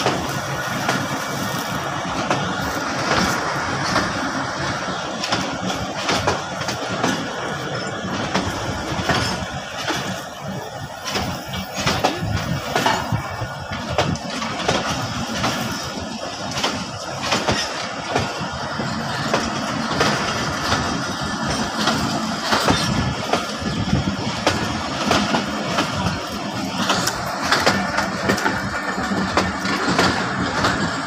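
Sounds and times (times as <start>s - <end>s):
train coaches rumbling past: 0.0s - 31.0s
wheels clicking over rail joints: 0.0s - 31.0s.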